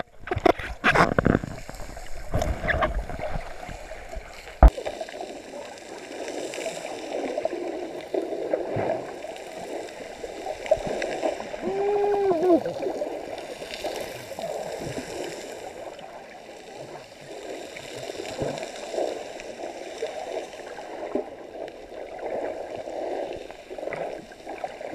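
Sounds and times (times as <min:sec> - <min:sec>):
muffled underwater water wash: 0:00.0 - 0:24.9.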